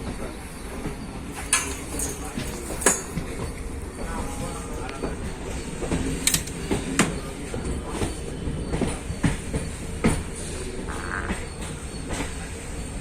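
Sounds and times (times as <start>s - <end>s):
train running rumble: 0.0s - 13.0s
train wheels clacking over joints: 0.1s - 13.0s.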